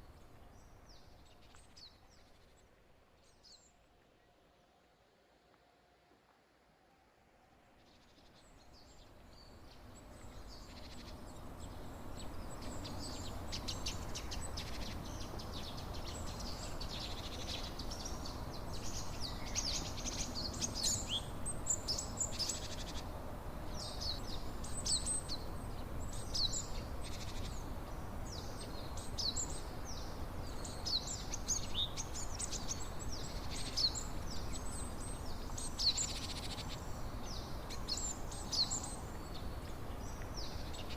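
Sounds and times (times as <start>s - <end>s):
songbirds chirping: 0.0s - 5.7s, 7.0s - 40.9s.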